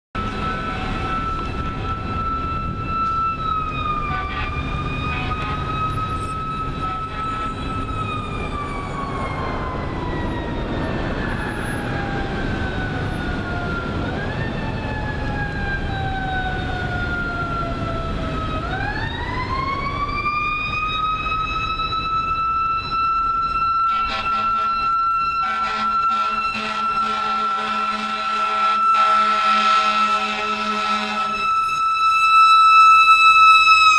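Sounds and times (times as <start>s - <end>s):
fire engine siren wailing: 0.1s - 33.9s
traffic noise: 0.2s - 33.9s.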